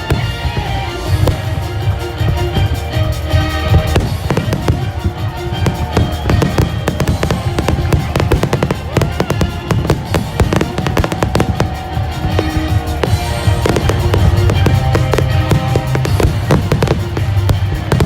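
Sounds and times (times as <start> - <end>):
fireworks bangs and crackles: 0.0 - 18.0
music: 0.0 - 18.0.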